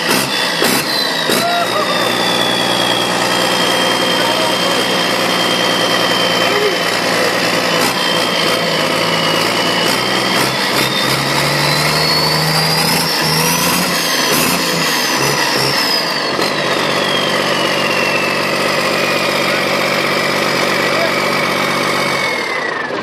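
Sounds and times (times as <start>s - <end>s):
diesel engine revving: 0.0s - 23.0s
turbo whine: 0.0s - 23.0s.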